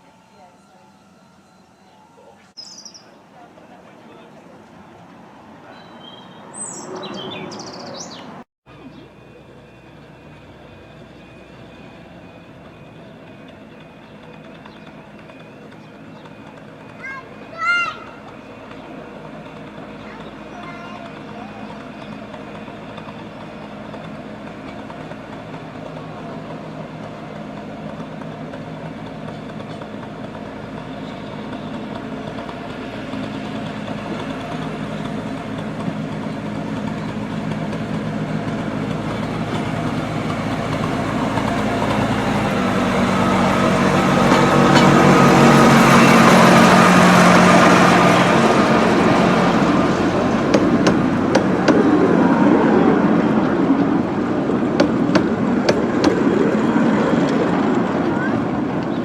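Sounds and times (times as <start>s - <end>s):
miniature train running hum: 0.0s - 6.5s, 8.3s - 59.0s
wheels clicking on track: 8.7s - 59.0s.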